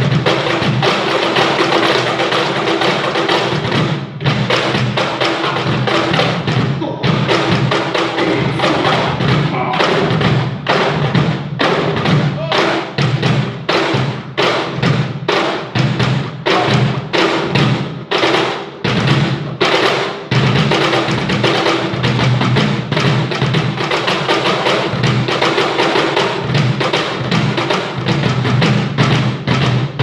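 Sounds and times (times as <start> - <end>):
cajon drumming: 0.0 - 30.0.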